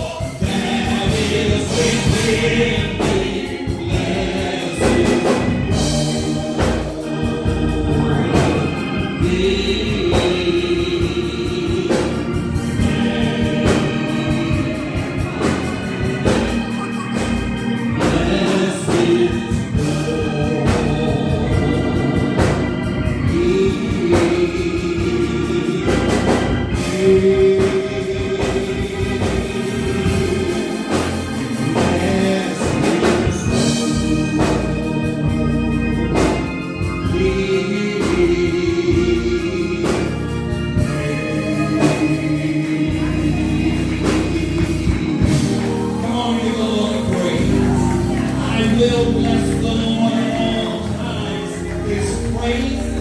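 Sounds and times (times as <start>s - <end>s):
choir singing gospel: 0.0s - 53.0s
organ accompaniment: 0.0s - 53.0s.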